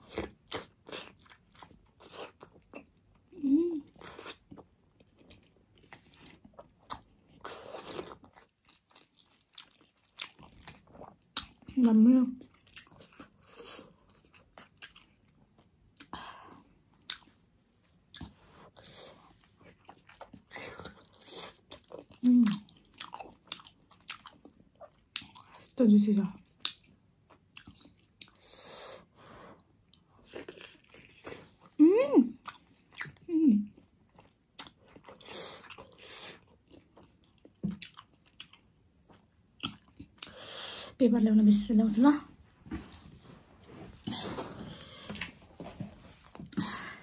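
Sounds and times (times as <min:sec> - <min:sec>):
wet chewing and smacking: 0:00.0 - 0:03.3, 0:03.9 - 0:28.6, 0:29.6 - 0:40.5.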